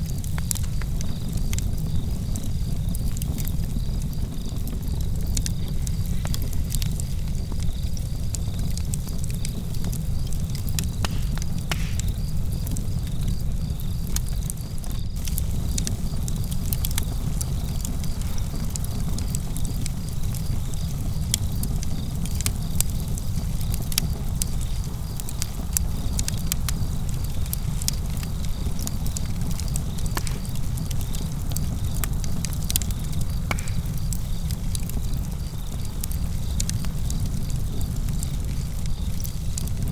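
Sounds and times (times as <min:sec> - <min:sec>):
campfire crackling and popping: 0:00.0 - 0:39.9
crickets chirping: 0:00.6 - 0:39.9.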